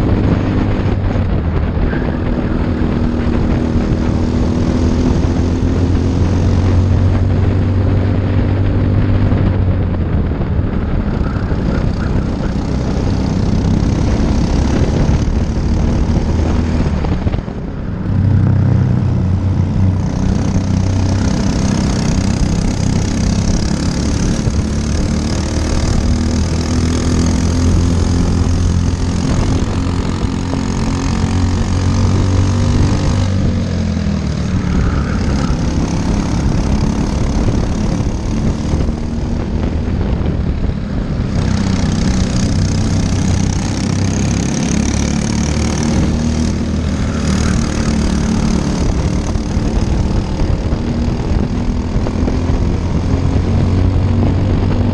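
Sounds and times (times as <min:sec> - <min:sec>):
kart engines racing: 0:00.0 - 0:54.9.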